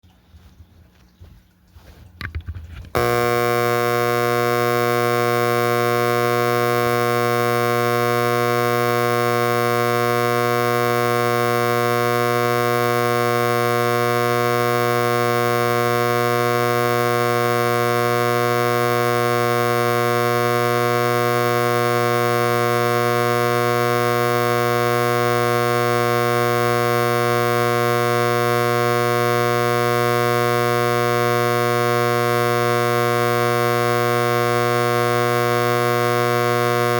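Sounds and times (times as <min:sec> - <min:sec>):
fire alarm horn buzzing: 0:03.0 - 0:36.9.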